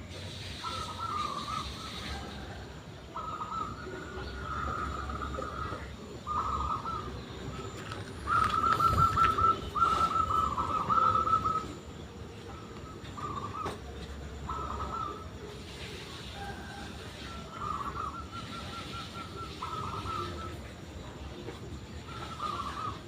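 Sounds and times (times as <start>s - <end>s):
dove cooing: 0.3s - 23.0s.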